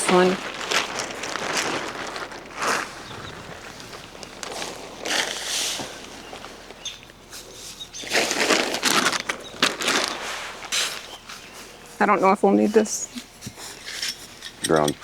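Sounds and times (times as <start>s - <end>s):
tarp rustling and crinkling: 0.0s - 14.4s.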